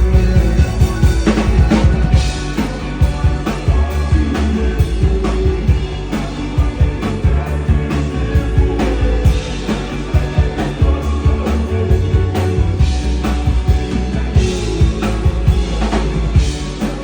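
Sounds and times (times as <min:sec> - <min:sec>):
drums on a slow beat: 0:00.0 - 0:17.0
live band playing slow rock: 0:00.0 - 0:17.0.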